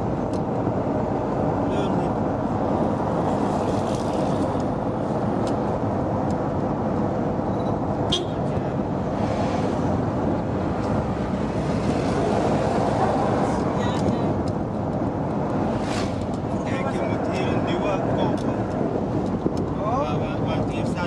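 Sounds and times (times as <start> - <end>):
car driving on road: 0.0 - 21.0.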